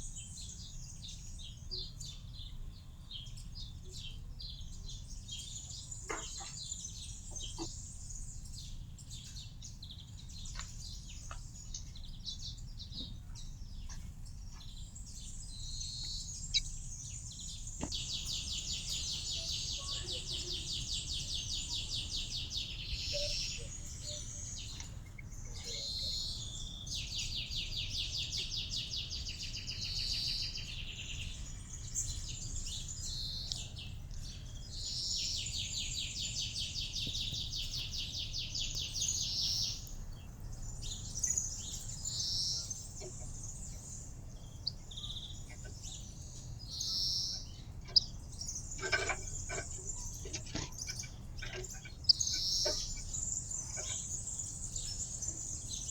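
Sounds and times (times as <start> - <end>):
songbirds trilling: 0.0 - 55.9
bird chirps: 5.6 - 55.9.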